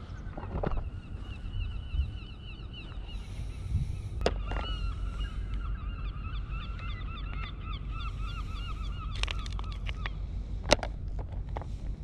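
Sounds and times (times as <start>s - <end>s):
flock of birds calling: 0.0s - 10.2s.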